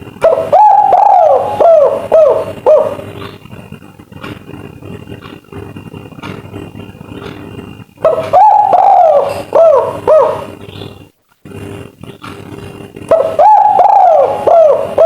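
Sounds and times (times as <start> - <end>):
dove cooing: 0.0 - 4.9, 7.0 - 15.0
background hum: 0.0 - 15.0.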